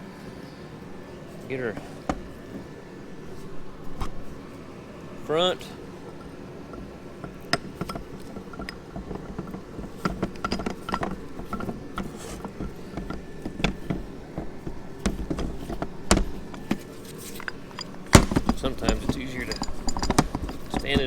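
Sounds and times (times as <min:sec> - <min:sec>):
steady low hum: 0:00.0 - 0:21.0
small metal clicks and knocks: 0:01.5 - 0:04.4, 0:06.0 - 0:21.0.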